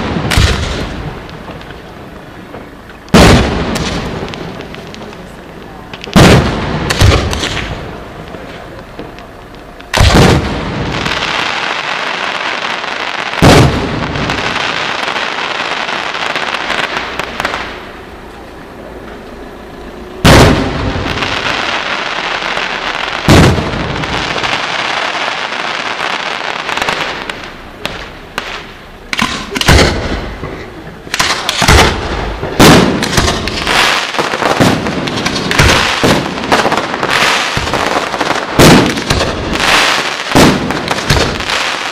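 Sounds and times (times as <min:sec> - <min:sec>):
crackling hiss of fireworks: 0:00.0 - 0:41.9
firework bangs: 0:00.0 - 0:41.9.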